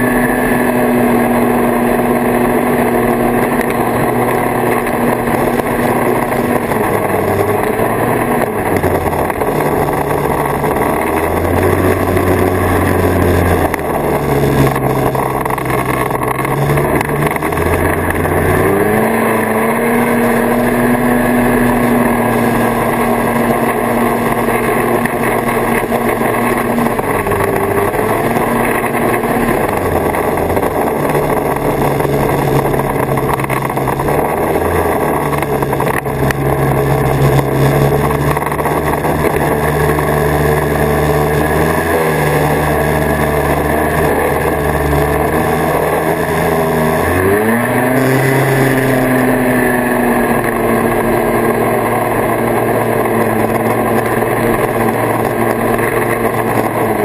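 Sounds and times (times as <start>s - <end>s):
snowmobile two-stroke engine: 0.0s - 57.0s.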